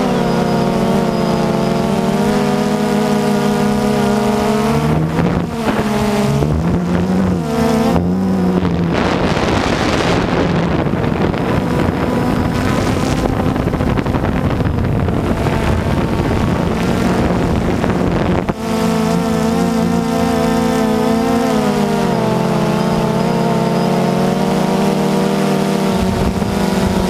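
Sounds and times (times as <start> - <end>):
drone propellers buzzing: 0.0 - 27.0
wind rushing over microphone: 0.0 - 27.0.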